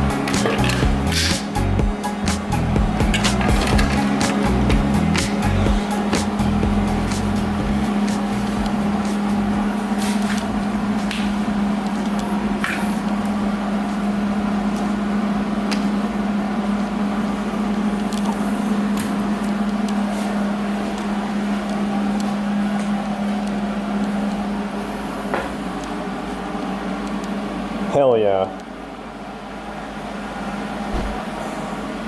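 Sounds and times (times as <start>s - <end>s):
shop tool humming: 0.0s - 27.4s.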